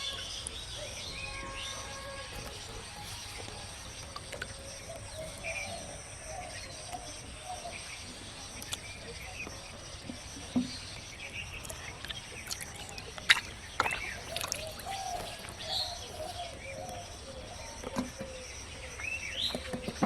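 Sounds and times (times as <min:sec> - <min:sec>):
birds chirping: 0:00.0 - 0:20.0
steady background noise: 0:00.0 - 0:20.0.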